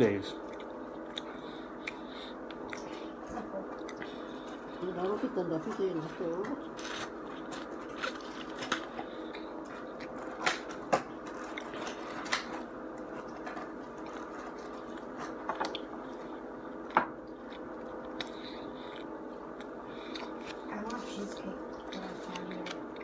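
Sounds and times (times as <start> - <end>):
steady low hum: 0.0 - 23.0
man chewing food: 0.3 - 5.4, 6.0 - 23.0.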